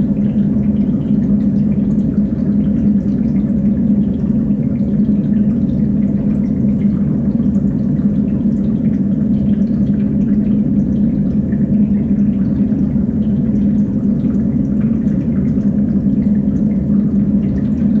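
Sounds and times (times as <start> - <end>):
water system humming: 0.0 - 18.0
water trickling and dripping: 0.0 - 18.0.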